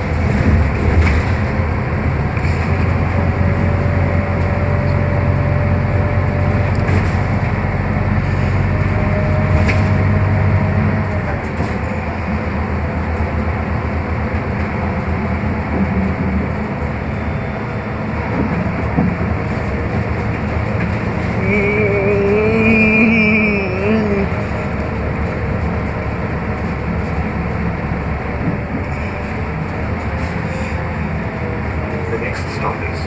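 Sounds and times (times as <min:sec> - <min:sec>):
bus interior hum: 0:00.0 - 0:33.0
road and body rattle: 0:00.0 - 0:33.0.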